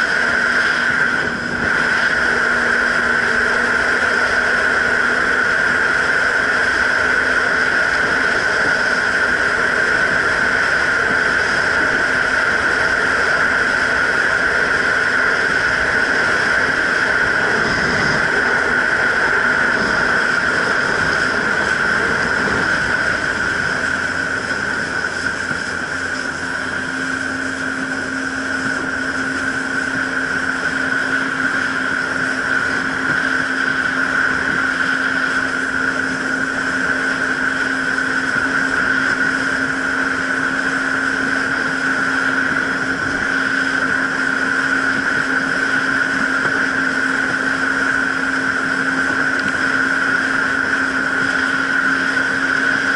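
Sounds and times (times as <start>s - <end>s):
continuous rushing noise: 0.0s - 52.9s
jet ski engine running: 0.0s - 52.9s.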